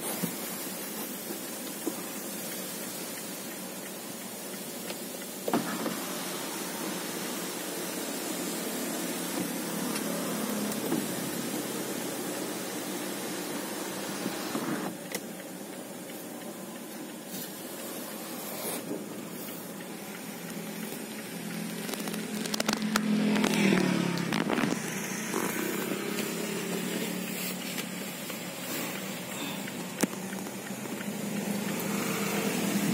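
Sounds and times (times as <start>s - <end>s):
car cabin hum and hiss: 0.0s - 32.9s.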